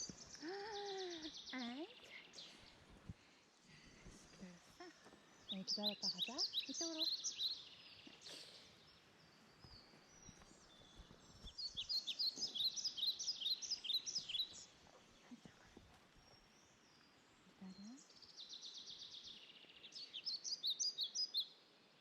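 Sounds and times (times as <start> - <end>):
faint background hiss: 0.0 - 22.0
songbird chirping: 0.0 - 22.0.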